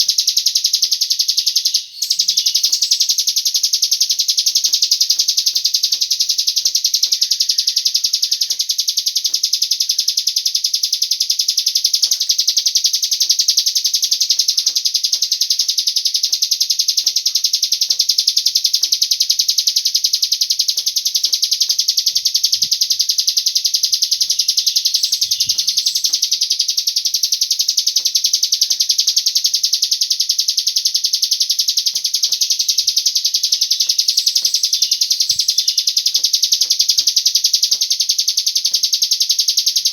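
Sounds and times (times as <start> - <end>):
bird song rapid high trill: 0.0 - 39.9.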